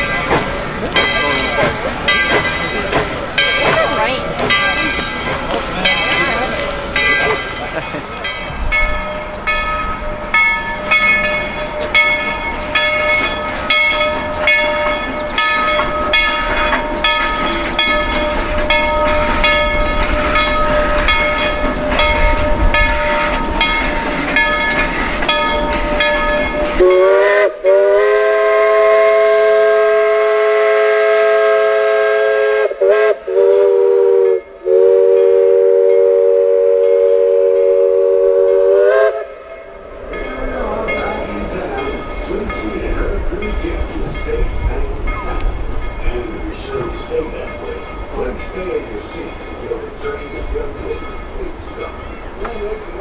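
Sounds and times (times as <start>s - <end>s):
chime steam whistle blowing: 0.0s - 43.1s
steam locomotive chuffing: 0.0s - 53.0s.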